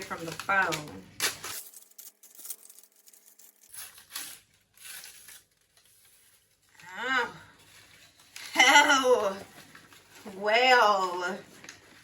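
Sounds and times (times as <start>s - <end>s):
faint rustling and handling noise: 0.0s - 12.0s.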